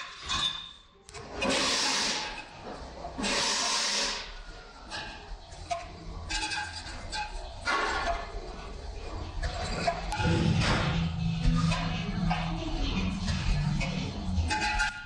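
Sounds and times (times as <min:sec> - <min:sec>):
metallic squeaks: 0:00.0 - 0:04.0, 0:04.8 - 0:08.4, 0:09.4 - 0:15.0.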